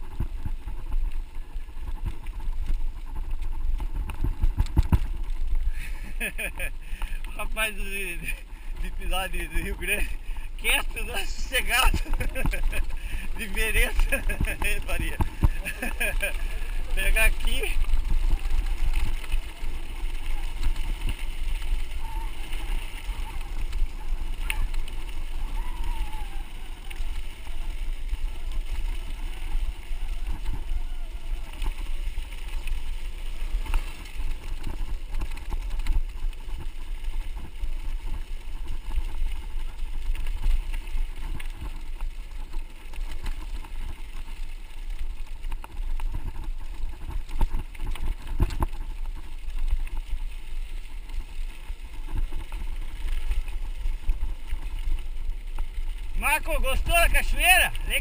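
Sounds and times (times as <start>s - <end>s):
bike knocking and rattling: 0.0s - 58.0s
bike tyres rumbling on gravel: 0.0s - 58.0s.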